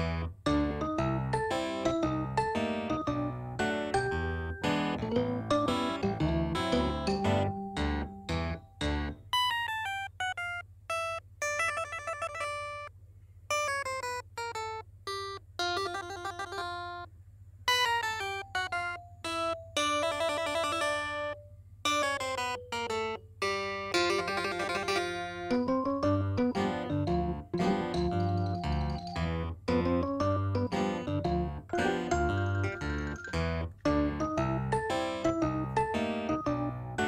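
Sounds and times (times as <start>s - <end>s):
instrumental music bright notes: 0.0s - 12.9s, 17.7s - 37.0s.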